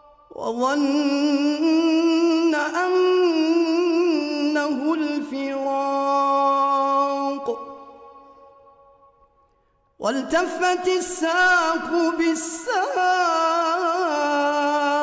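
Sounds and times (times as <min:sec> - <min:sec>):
man chanting melodically: 0:00.0 - 0:08.2, 0:10.0 - 0:15.0.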